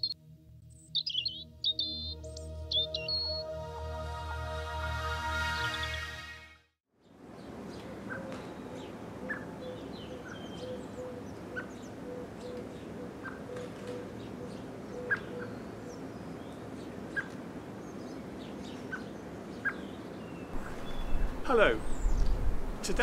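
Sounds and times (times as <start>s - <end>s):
garden birds chirping: 0.0s - 3.5s, 7.0s - 23.0s.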